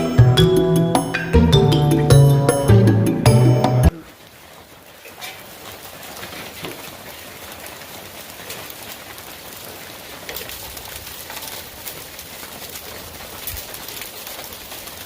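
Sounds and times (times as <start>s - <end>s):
hail ticking on surfaces: 0.0s - 15.0s
heavy rain: 0.0s - 15.0s.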